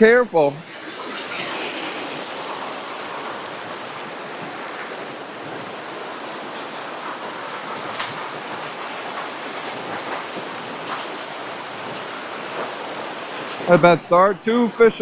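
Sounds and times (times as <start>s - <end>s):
creek flowing: 0.0s - 15.0s.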